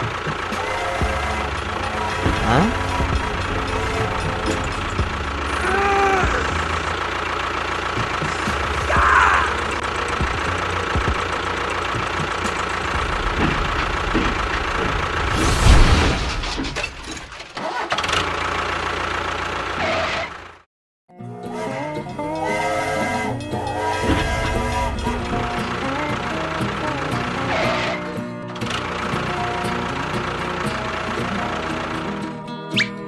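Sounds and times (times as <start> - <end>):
small engine running: 0.0 - 15.8, 17.9 - 20.6, 21.4 - 32.4.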